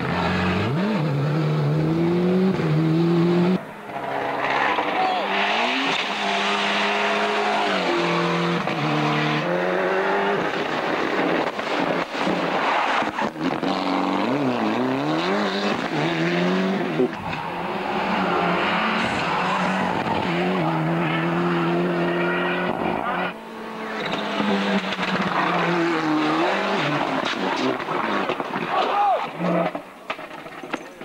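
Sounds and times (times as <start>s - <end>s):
rally car engines revving: 0.0s - 31.0s
tyre noise: 0.0s - 31.0s.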